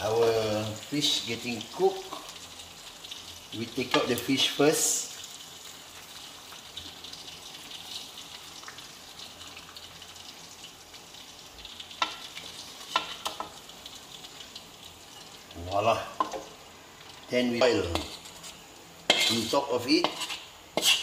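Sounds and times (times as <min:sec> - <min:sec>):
paste and oil sizzling in wok: 0:00.0 - 0:21.0.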